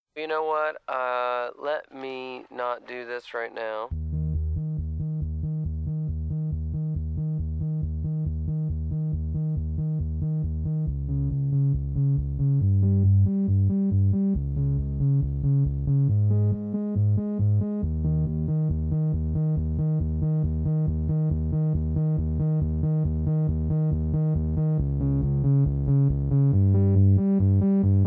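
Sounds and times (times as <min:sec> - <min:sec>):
electronic synthesizer music: 0:03.9 - 0:28.0.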